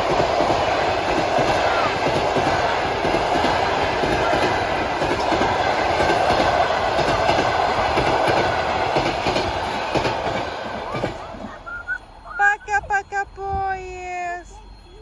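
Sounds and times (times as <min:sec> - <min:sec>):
rail and wheel noise: 0:00.0 - 0:15.0
train passing at speed: 0:00.0 - 0:15.0.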